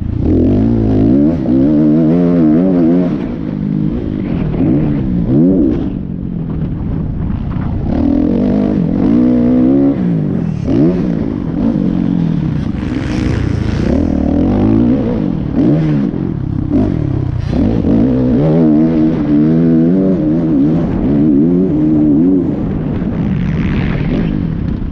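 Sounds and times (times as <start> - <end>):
motorbike engines revving: 0.0 - 24.9.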